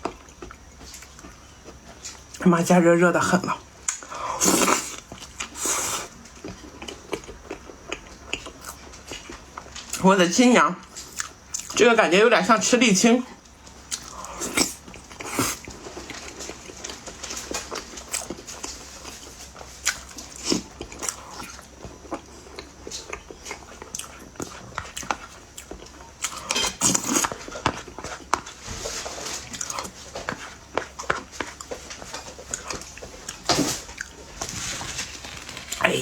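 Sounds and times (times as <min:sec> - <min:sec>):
close chewing and mouth sounds: 0:00.0 - 0:12.0, 0:13.2 - 0:36.0.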